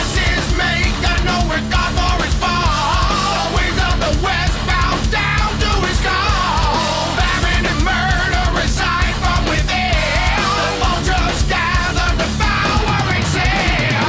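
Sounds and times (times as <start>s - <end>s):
distorted guitar: 0.0s - 14.0s
drums: 0.0s - 14.0s.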